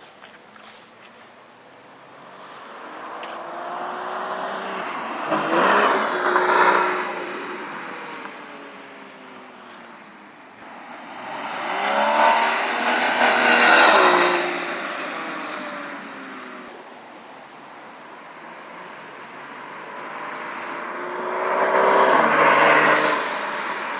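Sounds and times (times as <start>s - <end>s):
car engine revving: 2.0s - 9.9s, 10.6s - 16.8s, 18.2s - 23.9s.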